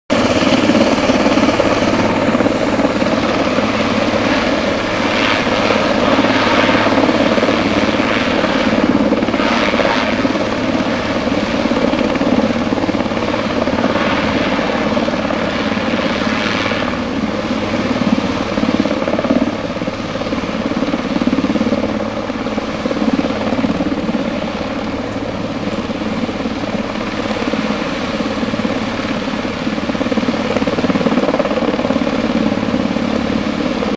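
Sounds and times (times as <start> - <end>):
helicopter rotor and turbine drone: 0.1 - 33.9.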